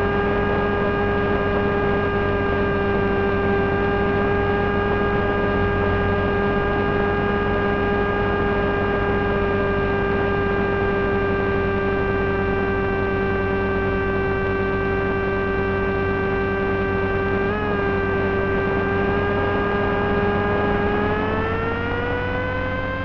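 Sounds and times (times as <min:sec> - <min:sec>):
electric motor and propeller whine: 0:00.0 - 0:23.0.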